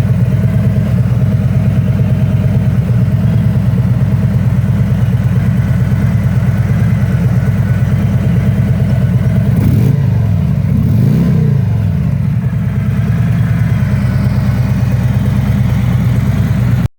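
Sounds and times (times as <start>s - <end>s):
trike engine idling and revving: 0.0s - 16.9s.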